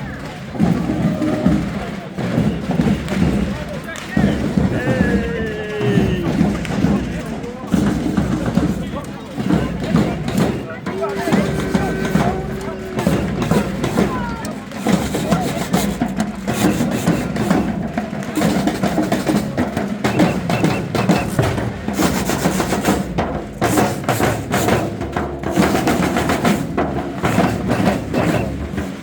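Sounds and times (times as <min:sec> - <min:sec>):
drum band playing: 0:00.0 - 0:29.0
snare and bass drums beating: 0:00.0 - 0:29.0.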